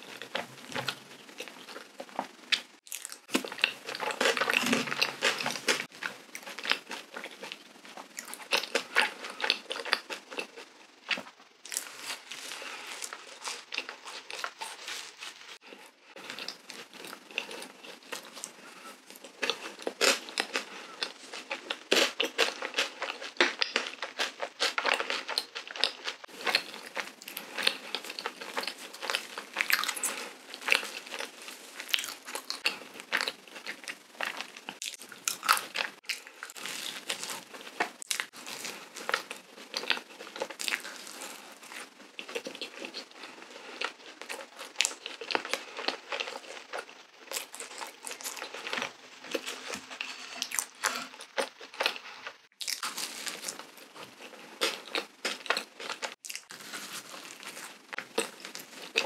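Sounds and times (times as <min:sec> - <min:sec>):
biting and chewing doughnut: 0:00.0 - 0:59.0.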